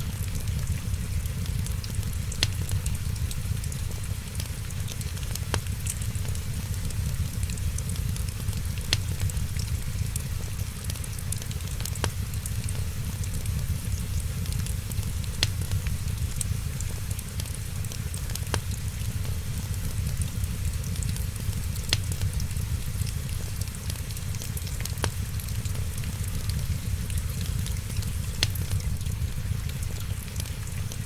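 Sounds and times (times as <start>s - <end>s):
sharp fire pops: 0.0s - 30.4s
wood fire crackling: 0.0s - 31.0s.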